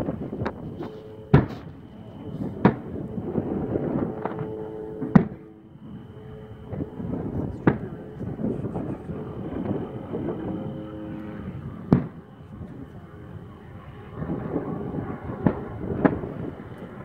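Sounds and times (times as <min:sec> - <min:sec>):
fireworks bangs: 0:00.0 - 0:12.8, 0:14.0 - 0:17.0
steady low rumble: 0:00.0 - 0:17.0.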